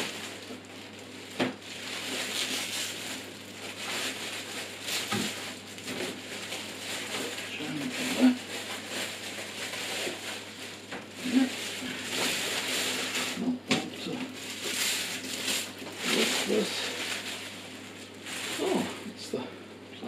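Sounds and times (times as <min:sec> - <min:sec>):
plastic wrapping crinkling: 0:00.0 - 0:19.3.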